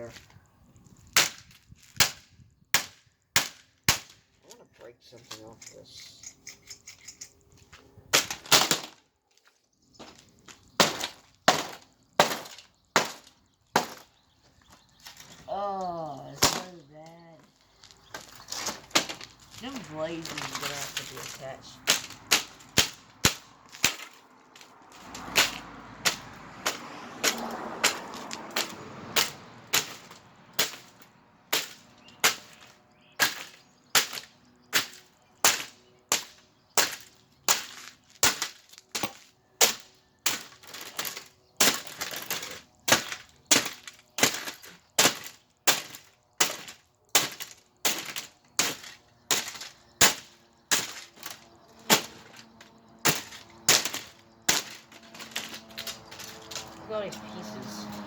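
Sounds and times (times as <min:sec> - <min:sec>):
box fan being smashed: 0:01.1 - 0:04.3, 0:08.1 - 0:09.0, 0:10.0 - 0:14.2, 0:16.3 - 0:16.8, 0:18.1 - 0:56.8.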